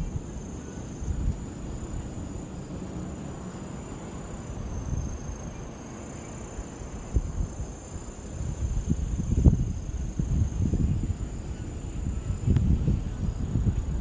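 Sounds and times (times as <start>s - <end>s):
insects trilling: 0.0s - 14.0s
low wind rumble: 0.0s - 14.0s.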